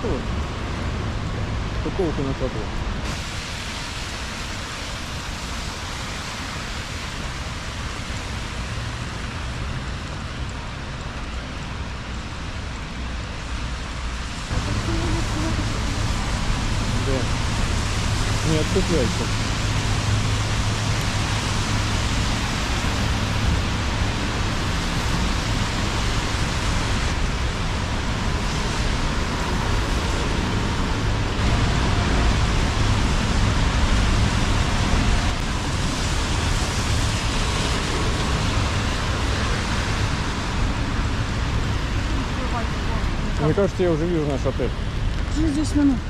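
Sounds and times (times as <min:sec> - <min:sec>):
steady rain: 0:00.0 - 0:46.0
traffic on wet streets: 0:00.0 - 0:46.0.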